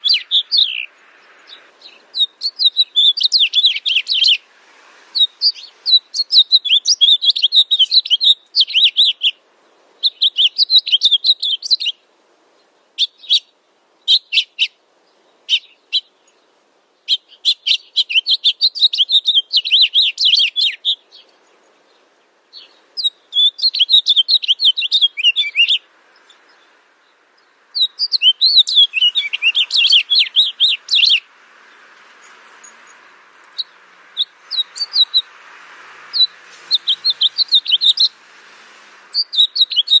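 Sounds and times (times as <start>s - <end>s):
songbird chirping: 0.0s - 40.0s.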